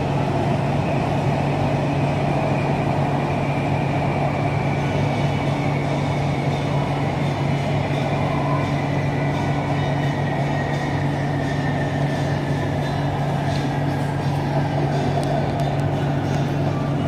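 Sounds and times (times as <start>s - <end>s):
electric train rumble and hum: 0.0s - 17.0s.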